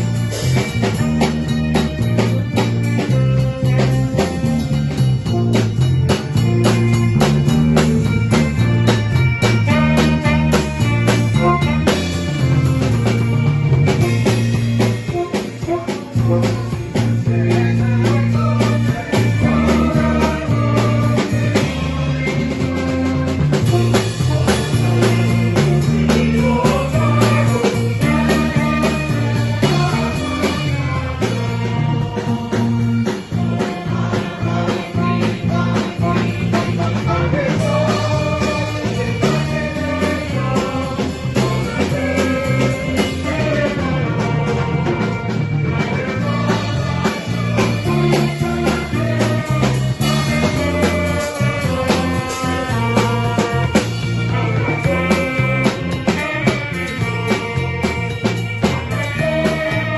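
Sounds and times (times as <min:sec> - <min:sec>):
drums steady beat: 0:00.0 - 0:59.9
instrumental band music: 0:00.0 - 0:59.9.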